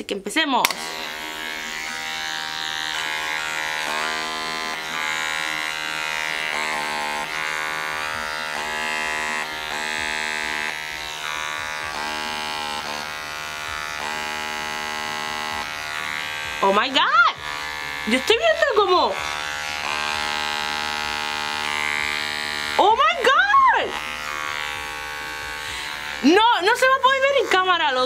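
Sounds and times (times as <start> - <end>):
pore vacuum electric buzz: 0.6 - 28.0.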